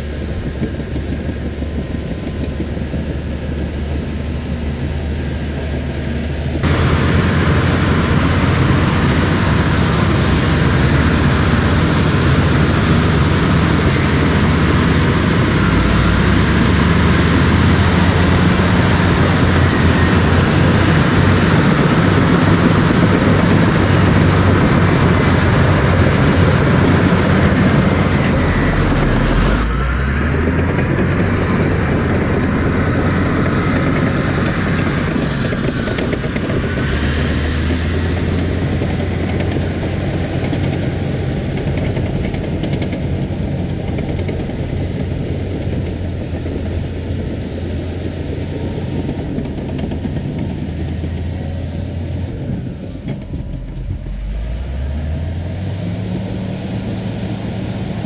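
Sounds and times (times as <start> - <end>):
earthmoving machine engine running: 0.0 - 58.0.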